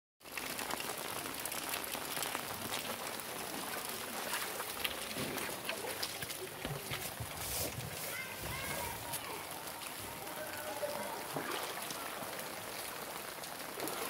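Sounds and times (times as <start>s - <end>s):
heavy rain falling: 0.2s - 14.0s.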